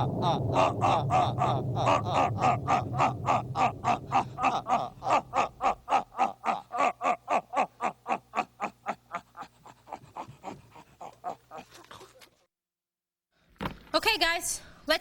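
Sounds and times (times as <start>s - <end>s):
puppet character laughing: 0.0s - 12.3s.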